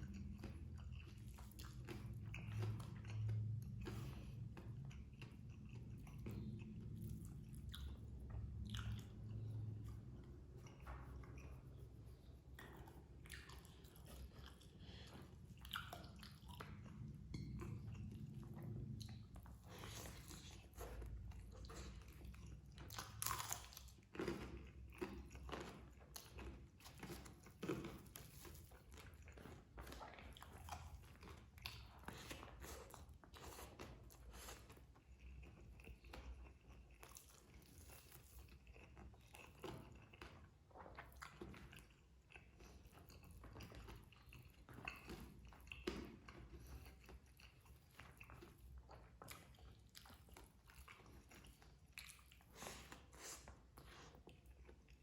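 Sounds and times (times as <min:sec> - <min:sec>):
person chewing and biting food: 0:00.0 - 0:55.0.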